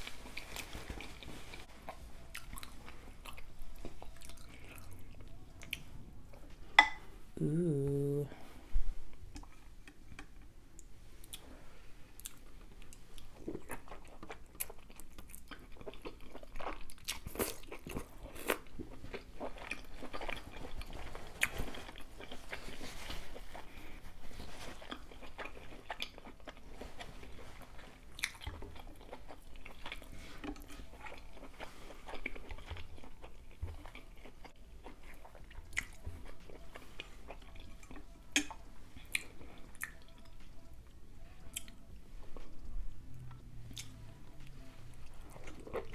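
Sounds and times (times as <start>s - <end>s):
person chewing food: 0.0s - 8.2s, 9.1s - 45.9s.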